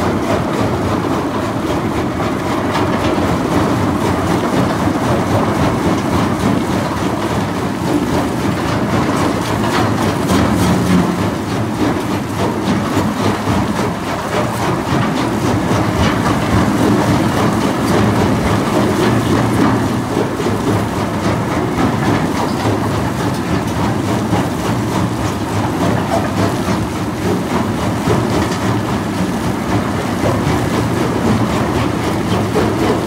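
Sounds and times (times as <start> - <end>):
mobile crusher running: 0.4 - 33.0.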